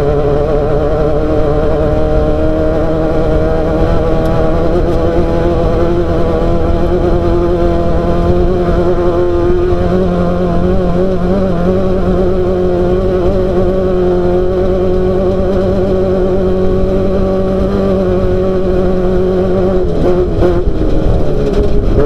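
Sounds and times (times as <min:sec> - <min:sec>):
race car engine running: 0:00.0 - 0:22.0.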